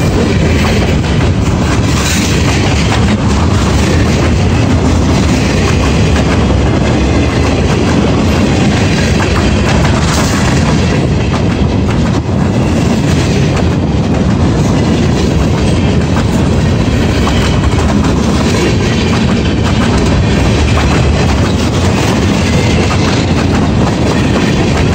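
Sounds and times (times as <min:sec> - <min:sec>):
freight train wheels clattering: 0:00.0 - 0:24.9.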